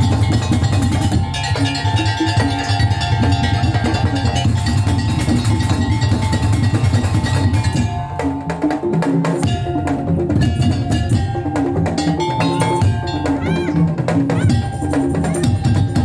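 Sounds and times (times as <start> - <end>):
slit drums and drums beating: 0.0 - 16.0.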